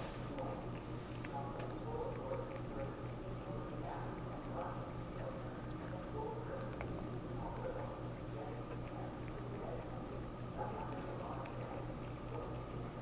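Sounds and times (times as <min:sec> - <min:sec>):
kitten chewing crunches: 0:00.0 - 0:13.0
low steady hum: 0:00.0 - 0:13.0.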